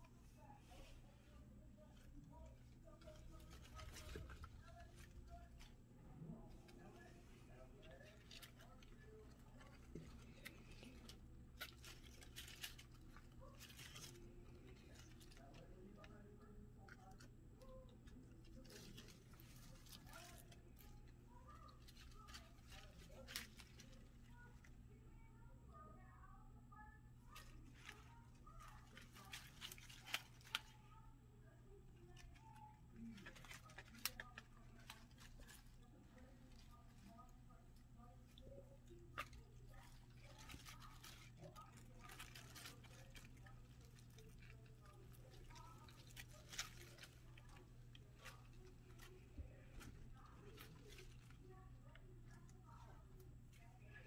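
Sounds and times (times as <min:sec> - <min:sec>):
rats rustling in leaves: 0:00.0 - 0:24.8, 0:27.2 - 0:31.1, 0:31.9 - 0:54.0
low room hum: 0:00.0 - 0:54.0.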